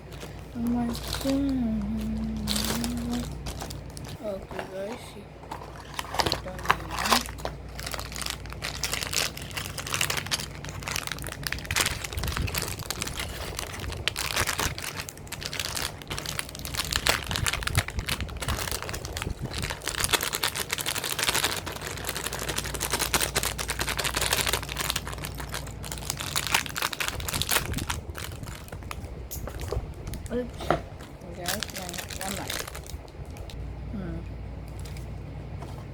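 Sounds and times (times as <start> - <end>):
plastic packaging crinkling: 0.0 - 33.6
steady low hum: 0.0 - 35.9.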